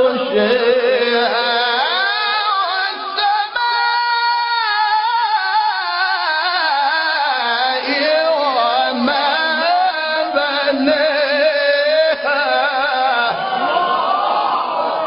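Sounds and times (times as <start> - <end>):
person chanting a melodic recitation: 0.0 - 13.4.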